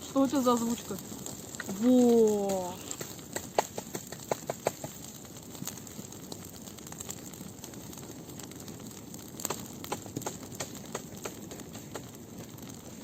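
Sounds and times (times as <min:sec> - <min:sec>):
dry twigs crackling and snapping: 0:00.0 - 0:13.0.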